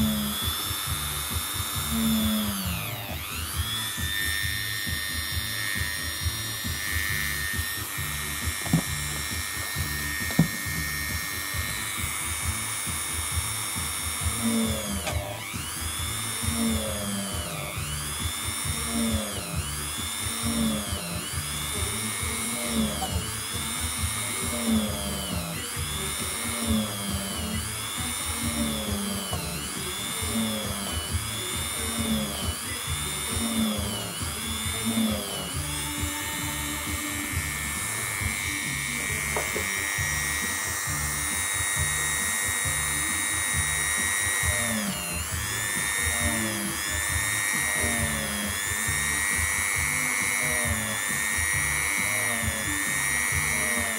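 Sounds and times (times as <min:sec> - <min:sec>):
background music: 0:00.0 - 0:53.9
rotary tool whining on leather: 0:00.0 - 0:53.9.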